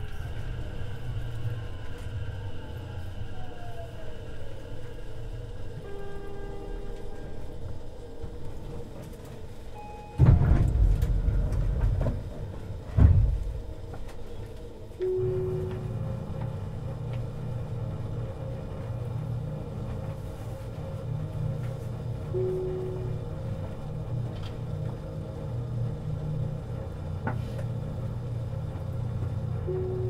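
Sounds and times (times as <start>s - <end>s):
train low rumble: 0.0s - 30.0s
train running gear whining: 0.0s - 30.0s.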